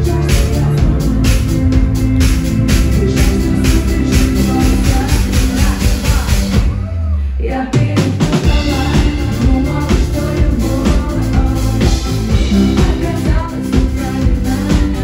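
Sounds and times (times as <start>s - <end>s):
woman singing into a microphone: 0.0s - 1.3s, 2.9s - 15.0s
live pop band with drums: 0.0s - 15.0s.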